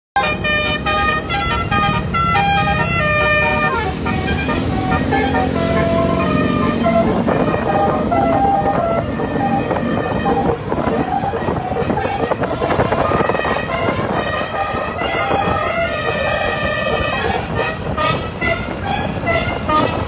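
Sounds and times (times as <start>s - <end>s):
melodic horn playing a tune: 0.2s - 20.0s
vehicle engine rumble: 0.2s - 20.0s.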